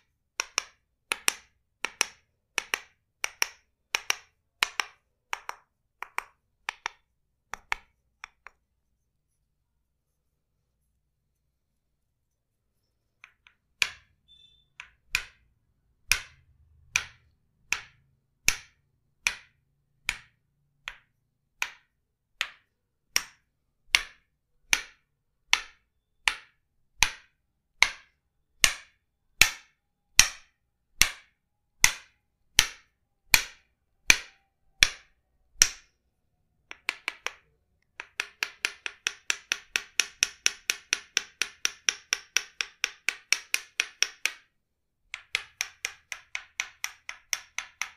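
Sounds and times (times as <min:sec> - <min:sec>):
wooden mallet knocking wooden peg: 0:00.4 - 0:08.6, 0:13.2 - 0:36.0, 0:36.6 - 0:47.9.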